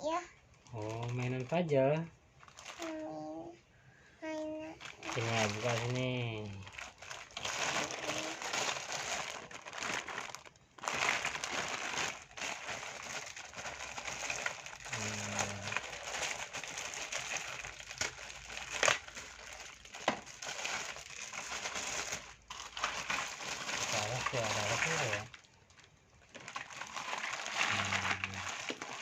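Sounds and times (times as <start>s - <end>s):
plastic packaging crinkling: 0.6s - 1.7s, 2.4s - 3.1s, 4.4s - 29.0s.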